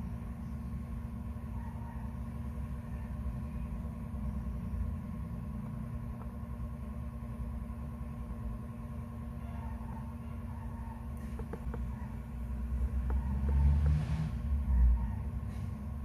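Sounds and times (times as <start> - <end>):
faint even hum: 0.0 - 16.0.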